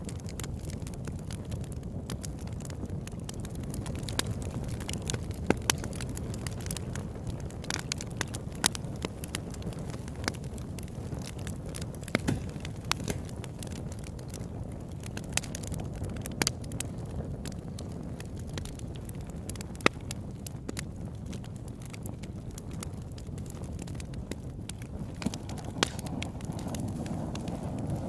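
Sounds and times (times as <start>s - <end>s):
burning wood crackling and popping: 0.0s - 28.0s
low rush of flames: 0.0s - 28.0s.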